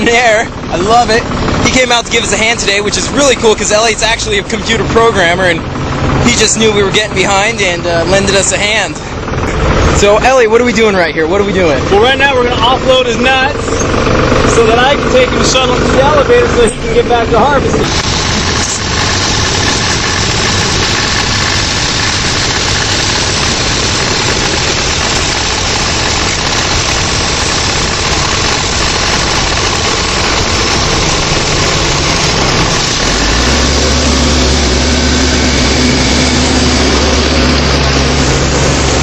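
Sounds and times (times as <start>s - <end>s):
deep steady hum: 0.0s - 39.0s
steady rushing noise: 0.0s - 39.0s
tractor engine running: 0.0s - 39.0s.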